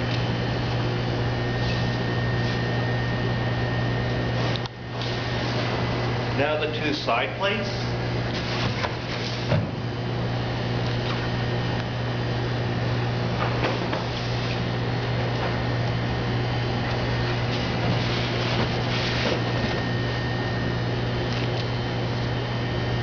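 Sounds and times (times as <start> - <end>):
low equipment hum: 0.0 - 23.0.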